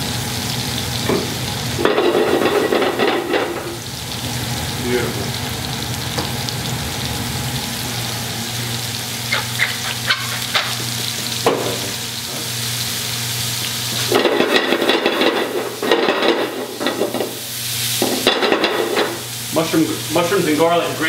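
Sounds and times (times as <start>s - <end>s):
mushrooms sizzling in a pot: 0.0s - 21.0s.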